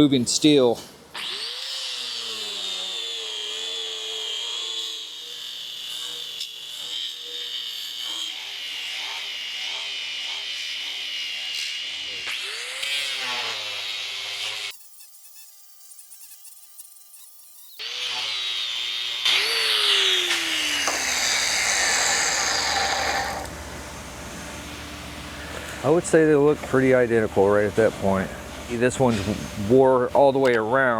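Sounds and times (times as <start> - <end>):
angle grinder grinding steel: 1.1 - 30.8.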